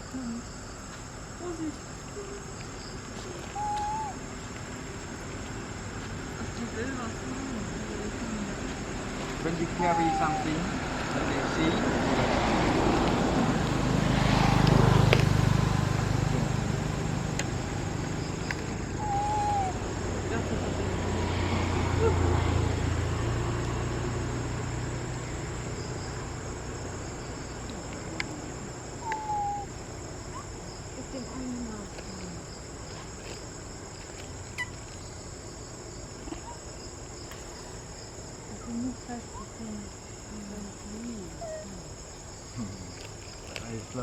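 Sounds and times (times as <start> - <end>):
insects chorus: 0.0 - 44.0
vehicle engine hum: 4.2 - 44.0.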